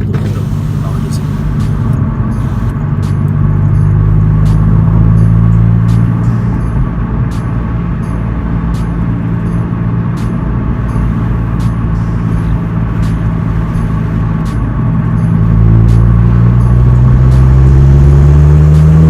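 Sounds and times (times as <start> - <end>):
car engine exhaust drone: 0.0 - 19.0.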